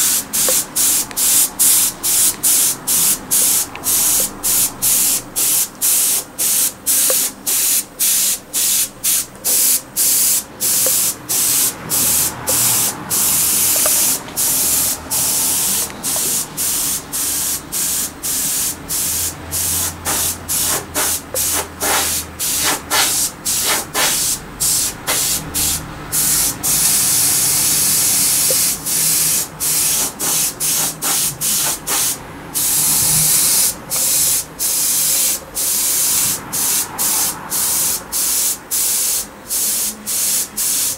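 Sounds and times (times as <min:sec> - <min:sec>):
airbrush hissing: 0:00.0 - 0:40.9.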